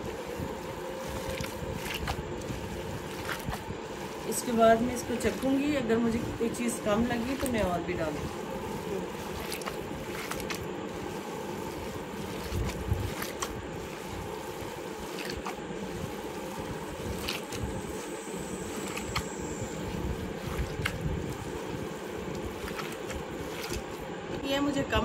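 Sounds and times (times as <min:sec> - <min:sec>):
hands kneading wet mince: 0:00.0 - 0:25.0.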